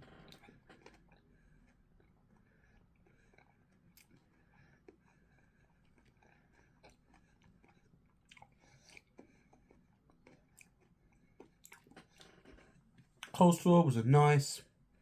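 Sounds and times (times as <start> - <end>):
chewing food: 0.0 - 13.3.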